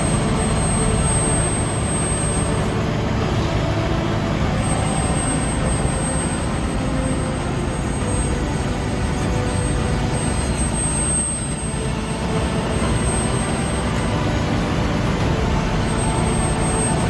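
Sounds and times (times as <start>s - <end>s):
heavy diesel engines rumbling: 0.0s - 17.0s.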